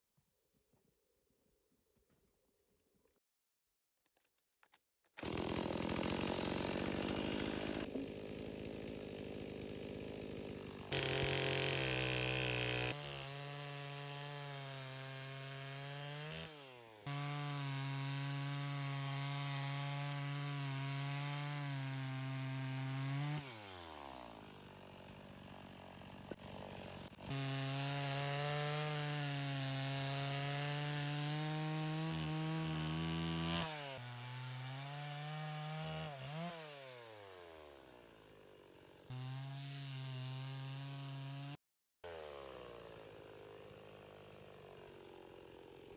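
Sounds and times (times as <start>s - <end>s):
chainsaw cutting wood: 5.2s - 45.9s.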